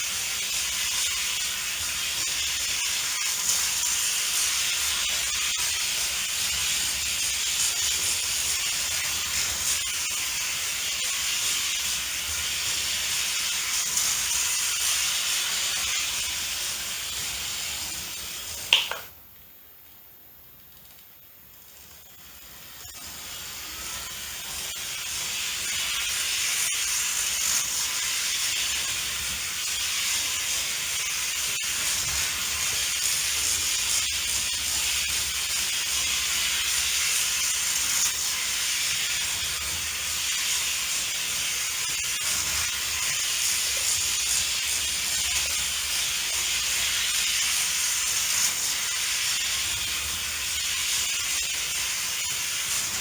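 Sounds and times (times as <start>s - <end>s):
model train motor whirring: 0.0s - 18.7s, 21.7s - 53.0s.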